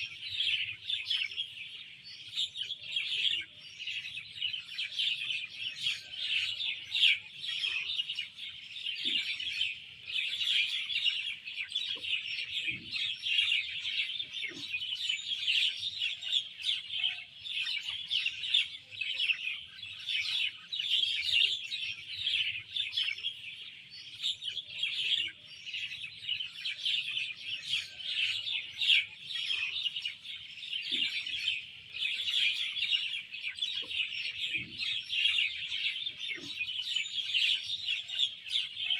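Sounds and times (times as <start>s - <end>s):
lower bird calls: 0.0s - 38.9s
songbirds chirping: 0.0s - 38.9s.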